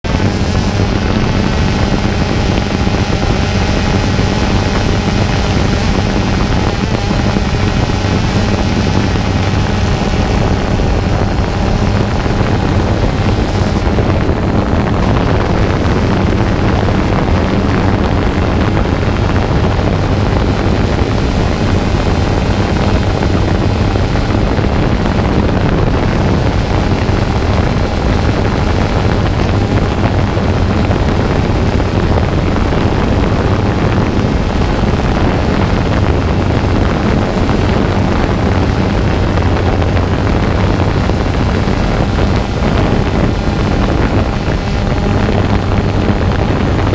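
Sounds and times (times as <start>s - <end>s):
drone motors humming: 0.0s - 46.9s.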